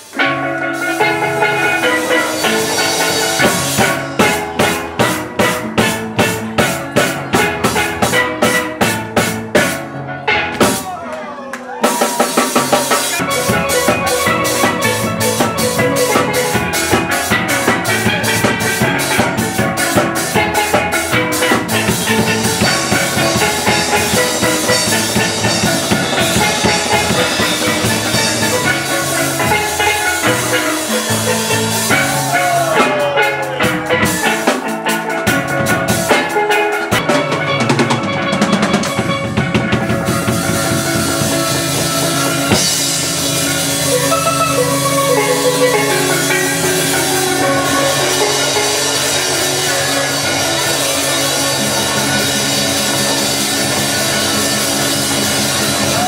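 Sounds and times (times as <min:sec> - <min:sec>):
drum kit steady beat: 0:00.0 - 0:11.0, 0:11.8 - 0:56.0
steel pans playing melody: 0:00.0 - 0:11.0, 0:11.9 - 0:56.0.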